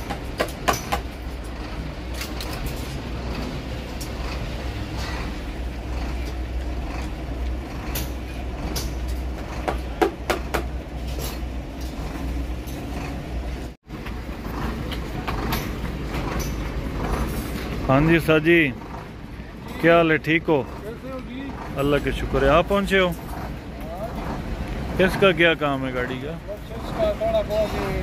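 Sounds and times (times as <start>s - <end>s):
low vehicle rumble: 0.0s - 28.0s.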